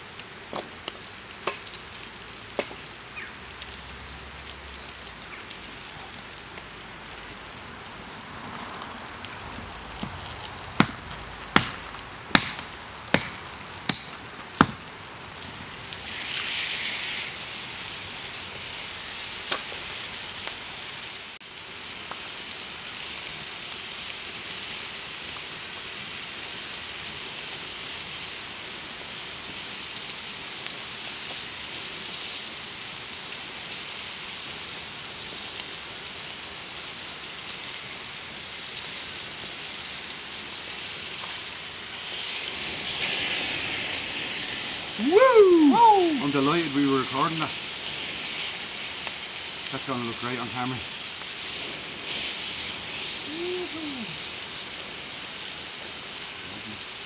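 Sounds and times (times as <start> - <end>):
sausages sizzling in a frying pan: 0.0 - 57.0.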